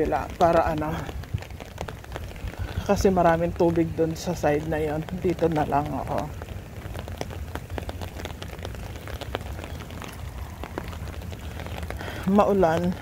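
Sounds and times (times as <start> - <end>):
low rumble of rain: 0.0 - 13.0
rain drops tapping: 0.0 - 13.0.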